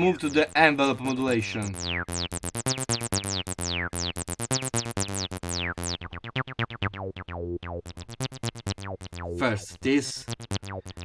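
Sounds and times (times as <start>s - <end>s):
synth acid bassline: 0.0s - 11.0s.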